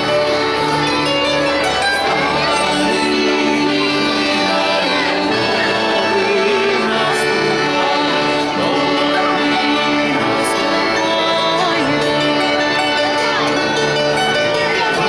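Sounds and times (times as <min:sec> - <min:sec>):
music with long held melody: 0:00.0 - 0:15.0.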